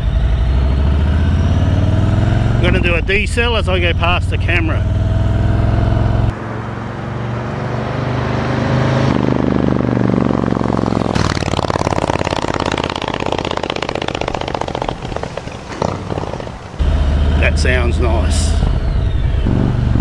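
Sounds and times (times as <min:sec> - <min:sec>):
motorcycle riding past: 0:00.0 - 0:20.0.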